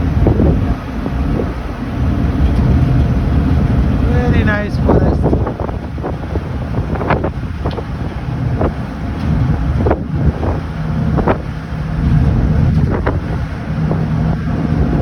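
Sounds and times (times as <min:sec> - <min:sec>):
ferry engines rumbling: 0:00.0 - 0:15.0
wind buffeting microphone: 0:00.0 - 0:15.0.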